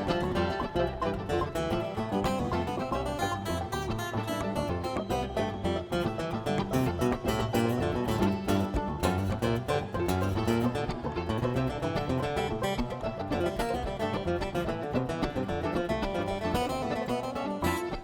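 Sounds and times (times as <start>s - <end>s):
bluegrass guitar and banjo music: 0.0s - 18.0s.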